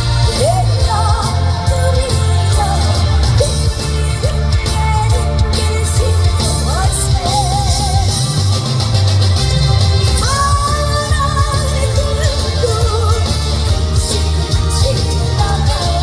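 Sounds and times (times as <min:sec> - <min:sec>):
woman singing with vibrato: 0:00.0 - 0:08.7, 0:10.2 - 0:16.0
amplified music with bass beat: 0:00.0 - 0:16.0.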